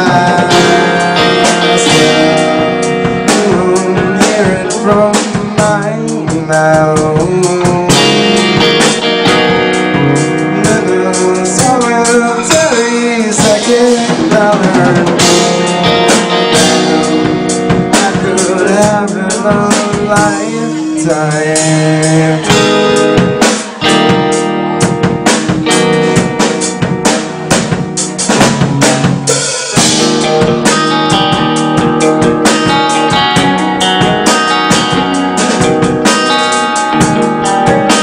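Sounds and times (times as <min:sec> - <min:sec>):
drum and cymbal hits: 0:00.0 - 0:38.0
electric guitars: 0:00.0 - 0:38.0.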